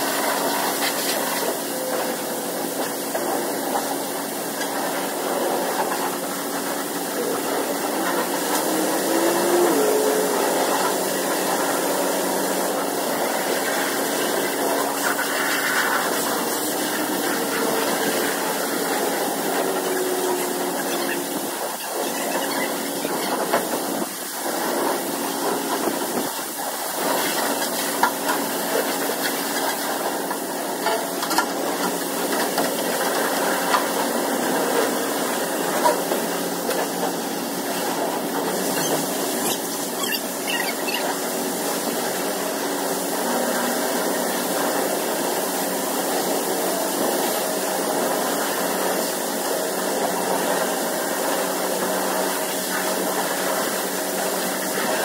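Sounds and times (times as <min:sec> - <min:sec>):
pressure washer spraying water: 0:00.0 - 0:55.0
pump humming: 0:00.0 - 0:55.0.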